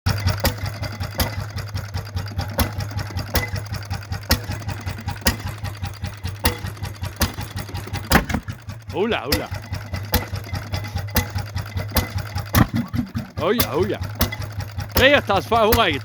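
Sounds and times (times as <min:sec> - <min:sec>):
engine humming and clattering: 0:00.0 - 0:16.0
engine bangs: 0:00.1 - 0:16.0.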